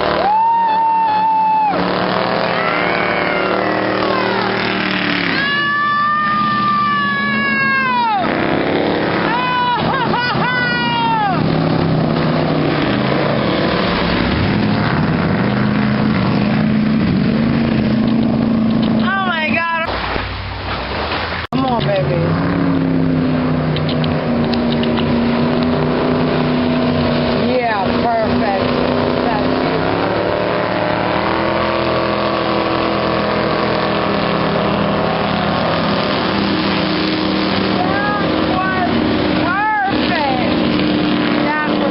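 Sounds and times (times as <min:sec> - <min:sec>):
broad rushing noise: 0:00.0 - 0:41.9
motorboat engine droning: 0:00.0 - 0:41.9.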